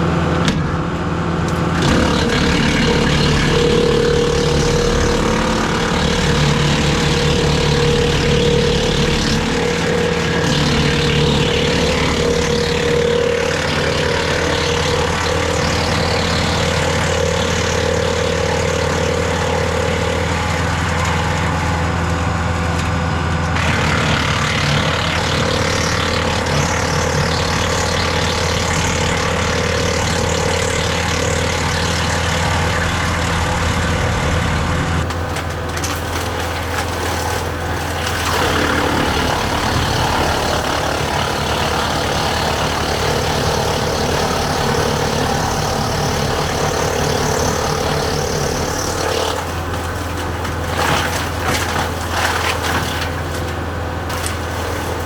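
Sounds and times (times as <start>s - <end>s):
tractor diesel engine running: 0.0s - 55.0s
wood chipper rough noise: 0.0s - 55.0s.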